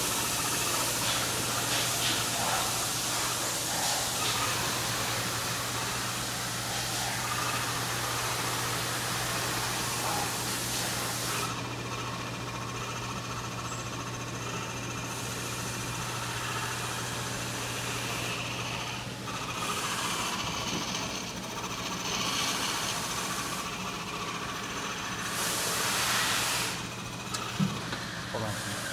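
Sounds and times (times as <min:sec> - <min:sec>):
hiss of fabric cutting: 0:00.0 - 0:11.8, 0:15.0 - 0:28.9
fabric cutting machine humming: 0:00.0 - 0:28.9.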